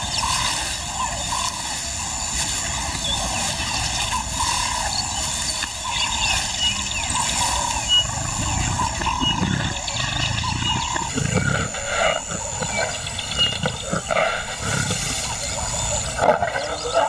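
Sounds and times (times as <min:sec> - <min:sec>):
lion roaring: 0:00.0 - 0:17.0.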